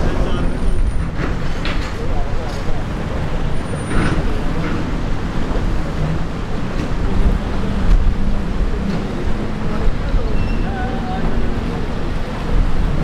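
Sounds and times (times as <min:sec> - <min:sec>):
waves: 0:00.0 - 0:13.0
wind buffeting microphone: 0:00.0 - 0:13.0.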